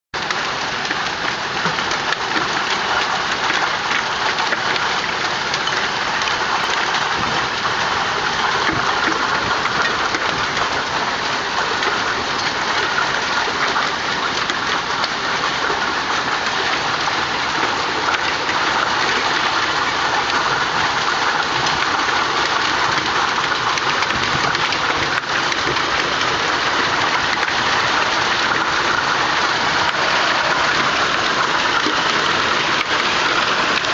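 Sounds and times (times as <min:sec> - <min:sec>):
hail and heavy rain falling: 0:00.2 - 0:33.9.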